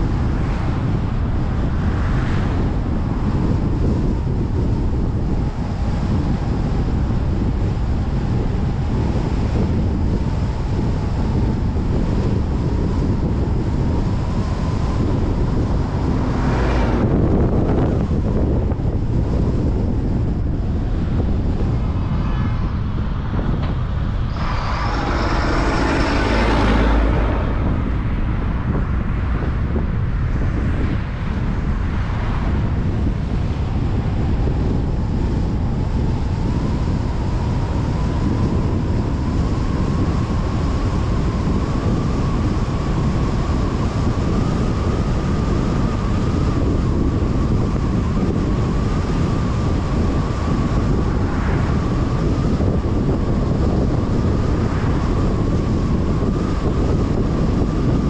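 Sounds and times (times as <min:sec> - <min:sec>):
road and wind noise: 0:00.0 - 0:58.0
rush of noise: 0:00.0 - 0:58.0
thin whine: 0:00.0 - 0:58.0.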